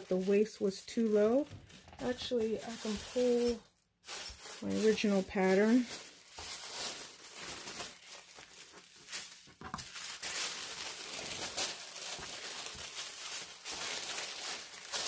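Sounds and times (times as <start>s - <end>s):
tissue paper rustling: 0.0s - 15.0s.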